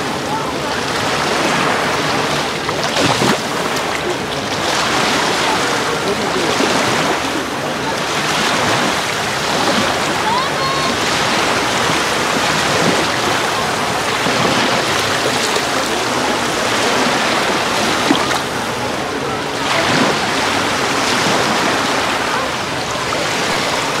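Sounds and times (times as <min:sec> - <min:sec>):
small waves washing ashore: 0:00.0 - 0:24.0
water splash: 0:00.0 - 0:24.0.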